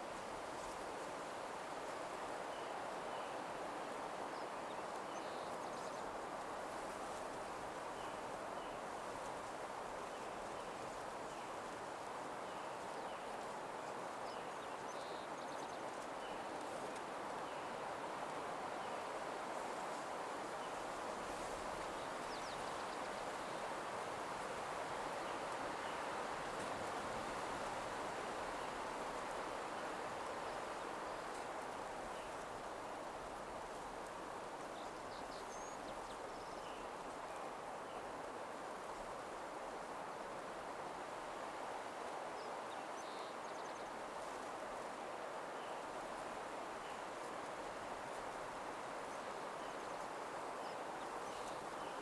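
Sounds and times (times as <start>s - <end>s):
soft rustling hiss: 4.8s - 52.0s.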